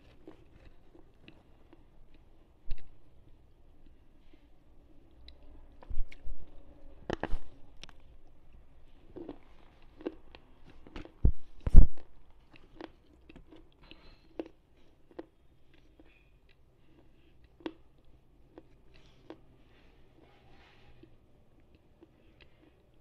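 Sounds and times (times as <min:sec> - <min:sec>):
slate pencils being chewed: 0:00.0 - 0:03.0, 0:05.1 - 0:11.2, 0:12.4 - 0:23.0.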